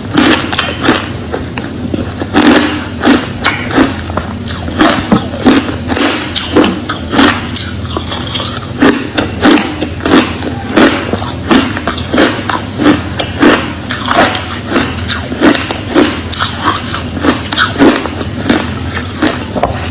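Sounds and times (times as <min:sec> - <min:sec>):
ice being chewed: 0:00.1 - 0:19.9.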